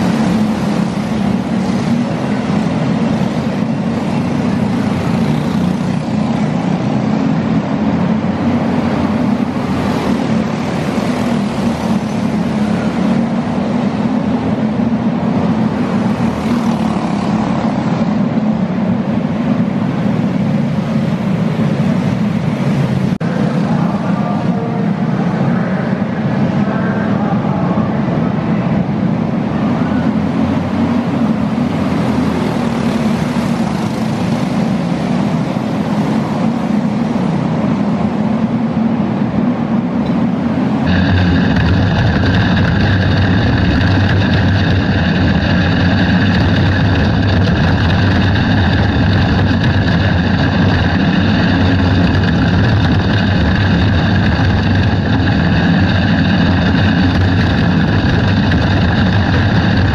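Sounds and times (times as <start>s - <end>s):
kart engine heard onboard: 0.0s - 59.9s
kart engines racing: 0.0s - 59.9s.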